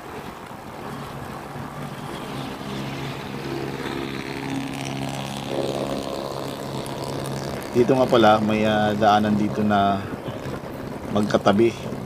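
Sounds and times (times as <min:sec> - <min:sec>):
wind and road noise: 0:00.0 - 0:12.0
motorcycle engine running: 0:00.7 - 0:12.0.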